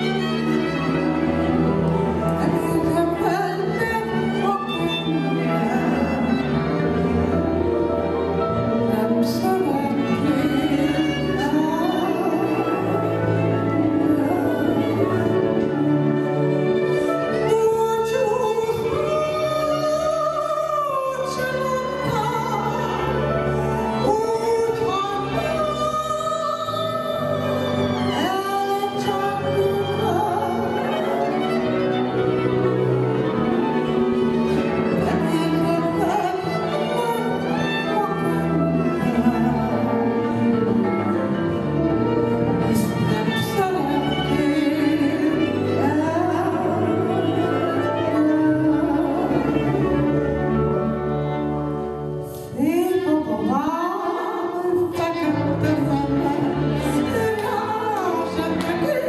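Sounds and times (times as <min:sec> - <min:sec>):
violin: 0:00.0 - 0:59.0.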